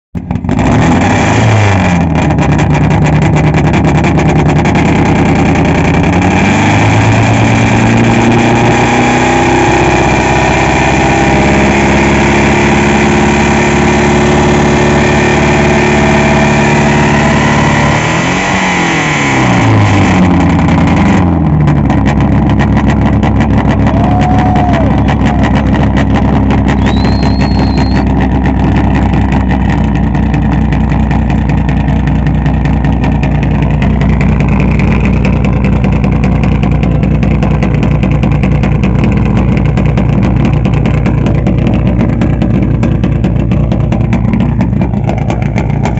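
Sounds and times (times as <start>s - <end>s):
car engine revving: 0.2s - 45.9s.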